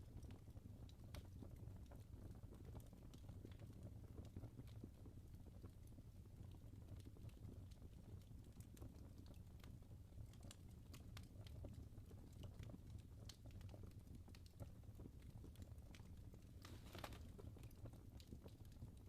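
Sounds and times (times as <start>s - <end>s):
low fire rumble: 0.0s - 19.0s
wood fire crackling: 0.0s - 19.0s.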